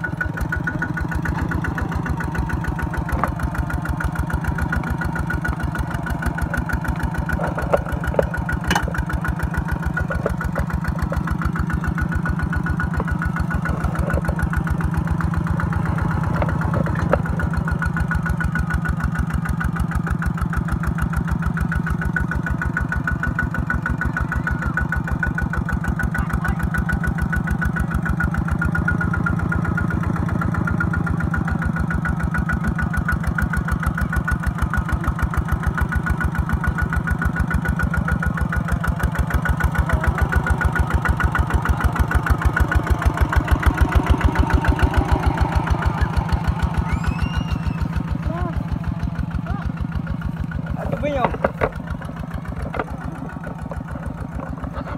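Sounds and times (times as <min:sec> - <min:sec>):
tractor diesel engine thumping: 0:00.0 - 0:54.9.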